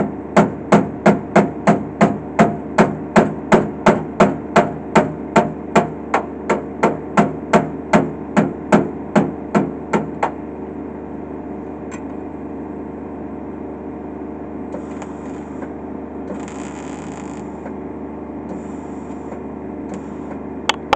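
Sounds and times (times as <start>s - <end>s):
steady machine hum: 0.0s - 20.9s.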